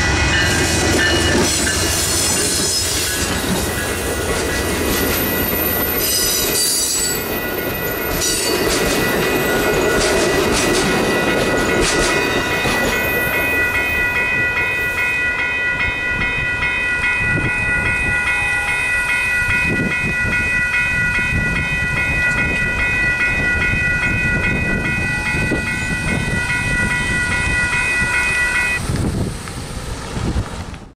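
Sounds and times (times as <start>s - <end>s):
crossing bells ringing: 0.0s - 28.9s
train wheels clicking on rails: 0.0s - 30.9s.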